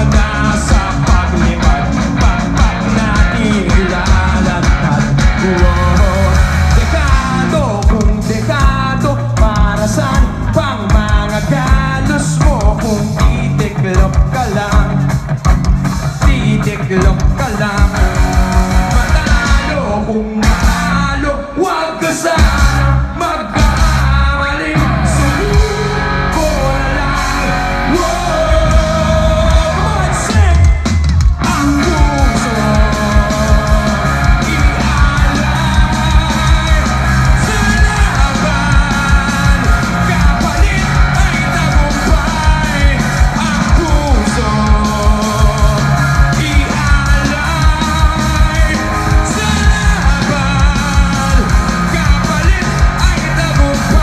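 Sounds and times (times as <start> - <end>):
singer singing into microphone: 0.0 - 15.3, 16.1 - 54.0
steady drum beat: 0.0 - 21.1, 22.3 - 54.0
live rock band playing: 0.0 - 54.0.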